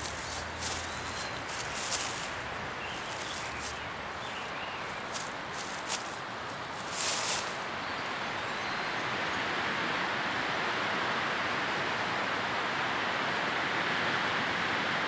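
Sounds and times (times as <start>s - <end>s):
leaves rustling in wind: 0.0s - 15.0s.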